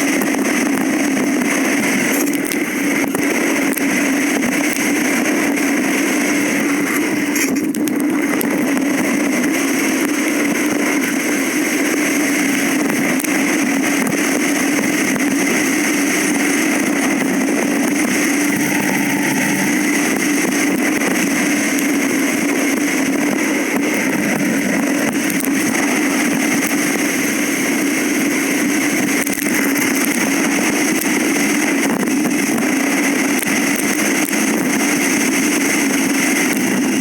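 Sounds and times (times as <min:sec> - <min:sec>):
motorcycle engine droning: 0:00.0 - 0:37.0.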